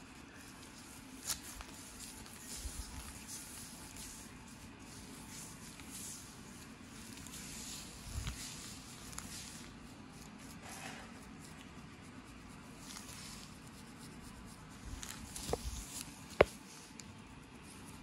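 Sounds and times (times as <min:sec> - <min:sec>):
comb scratching scalp: 0:00.0 - 0:18.0.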